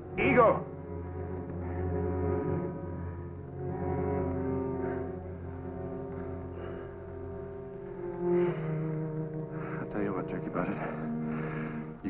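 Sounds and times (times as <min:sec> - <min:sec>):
dramatic music sustained notes: 0:00.0 - 0:12.0.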